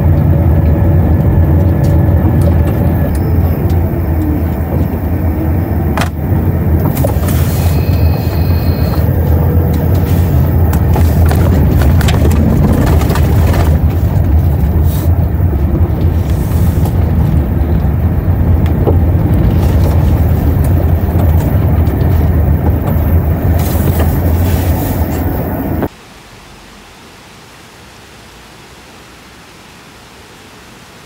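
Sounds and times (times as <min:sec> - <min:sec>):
car rumbling over gravel: 0:00.0 - 0:25.9.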